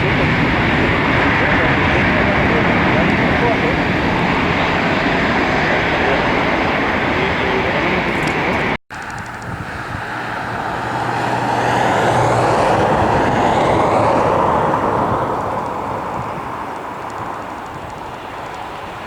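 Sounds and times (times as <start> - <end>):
jet airliner engine noise: 0.0 - 19.0
jet passing: 0.0 - 19.0.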